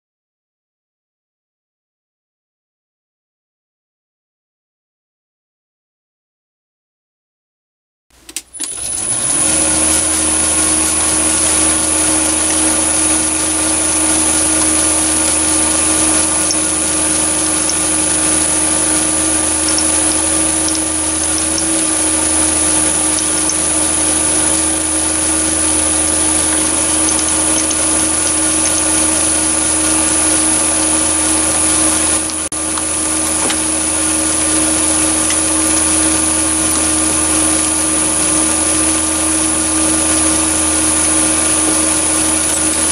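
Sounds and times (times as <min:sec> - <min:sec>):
metal lathe running: 0:08.6 - 0:42.9.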